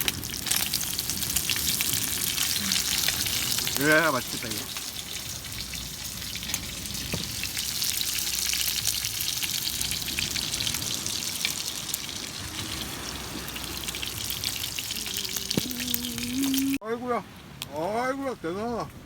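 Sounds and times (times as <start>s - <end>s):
food sizzling and popping: 0.0s - 16.8s.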